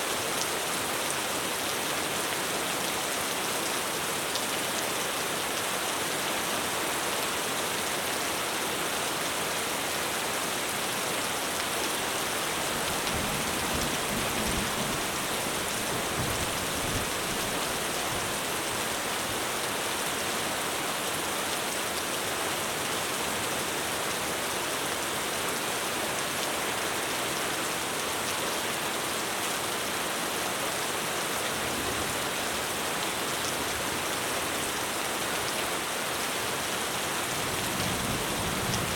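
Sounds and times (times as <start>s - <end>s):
heavy rain on a roof: 0.0s - 38.9s.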